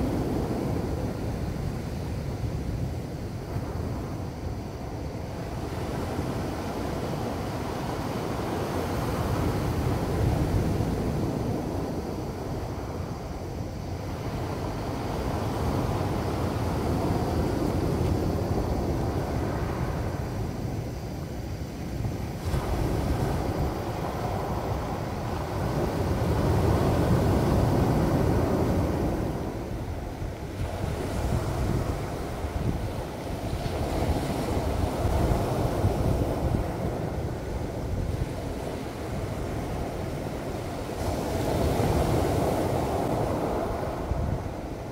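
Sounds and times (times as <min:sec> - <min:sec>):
surf washing up cobble beach: 0:00.0 - 0:44.9.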